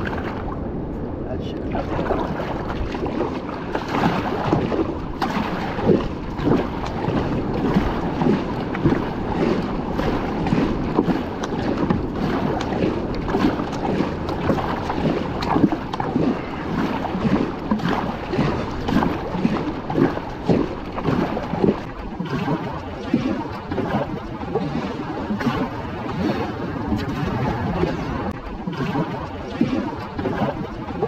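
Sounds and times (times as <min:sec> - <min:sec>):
paddle strokes splashing: 0:00.0 - 0:00.6, 0:01.5 - 0:31.0
water washing along hull: 0:00.0 - 0:31.0
wind buffeting microphone: 0:00.0 - 0:31.0.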